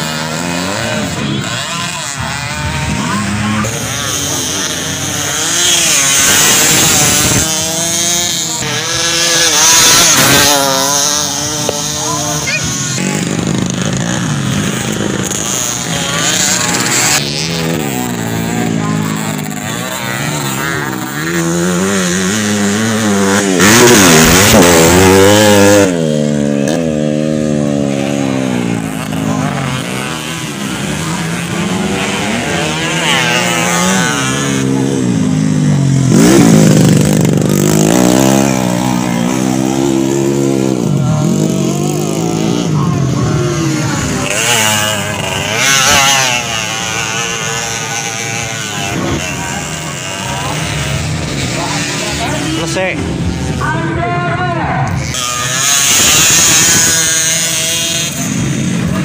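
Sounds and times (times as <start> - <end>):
dirt bikes revving and passing: 0.0 - 59.0.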